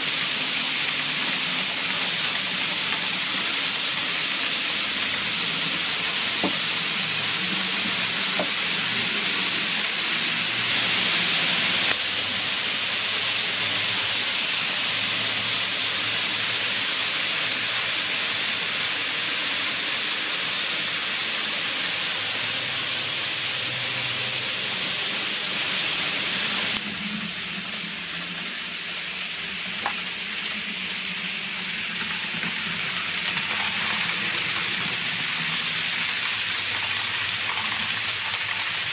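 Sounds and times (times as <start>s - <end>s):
model train wheels rattling on rails: 0.0s - 38.9s.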